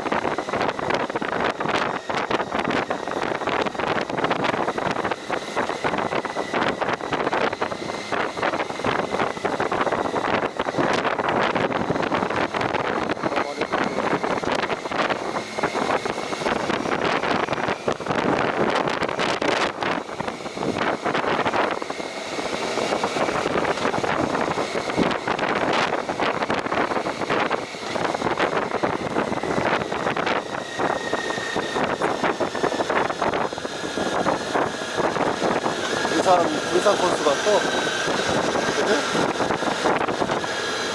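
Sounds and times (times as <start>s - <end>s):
vehicle running noise: 0.0s - 40.9s
wind buffeting microphone: 0.0s - 40.9s.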